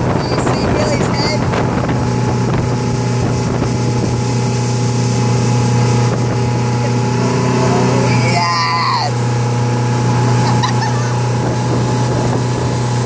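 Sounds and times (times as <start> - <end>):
wind on microphone: 0.0 - 8.2, 9.3 - 13.0
motorboat engine drone: 0.0 - 13.0
rush of boat wake: 0.0 - 13.0.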